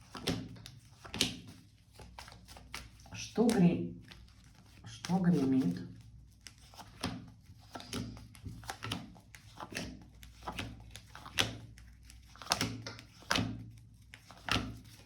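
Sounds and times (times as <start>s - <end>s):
cards shuffled on a table: 0.0s - 15.0s.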